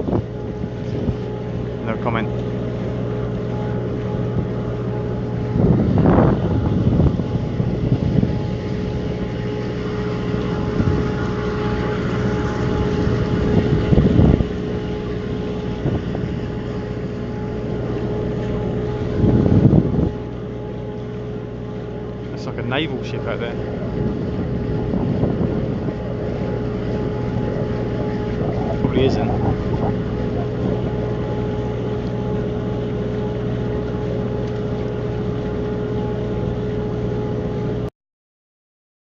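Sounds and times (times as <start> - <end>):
boat engine running: 0.0 - 37.9
rushing wind and water: 0.0 - 37.9.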